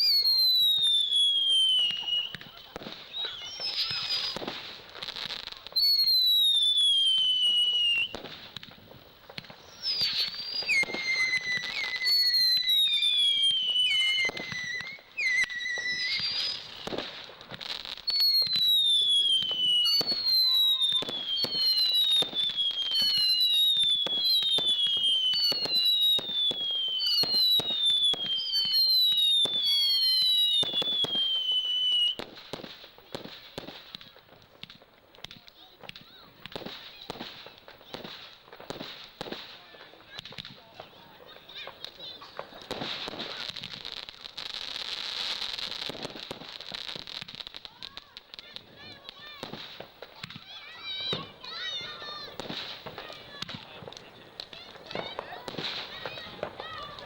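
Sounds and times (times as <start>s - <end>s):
firework pops and crackles: 0.0s - 57.0s
whistling fireworks: 0.0s - 57.0s.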